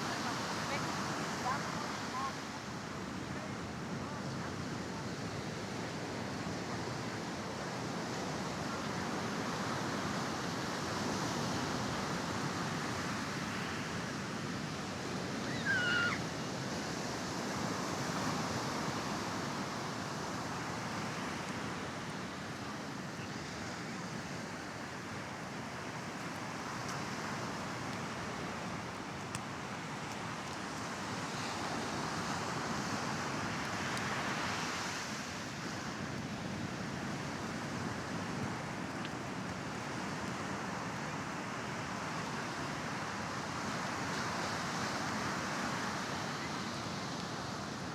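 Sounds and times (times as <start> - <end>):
surf washing onto beach: 0.0 - 47.9.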